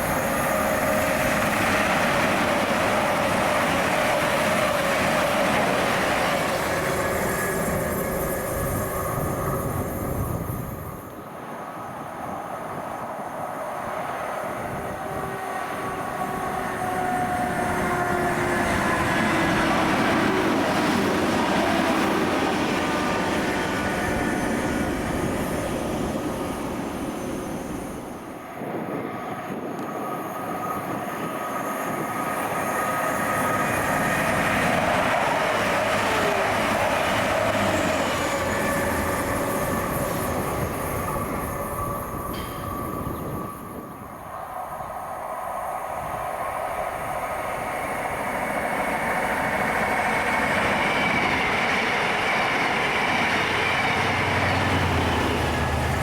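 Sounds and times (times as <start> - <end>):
train rail rumble with whine: 0.0 - 56.0.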